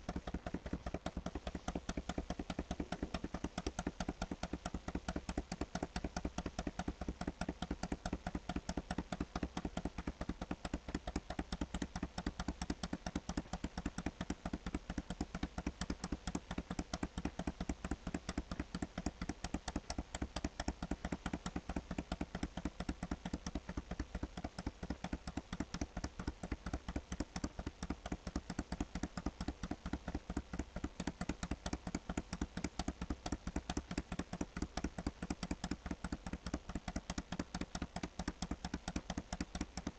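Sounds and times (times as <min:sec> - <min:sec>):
rapid even clicking: 0:00.0 - 0:39.9.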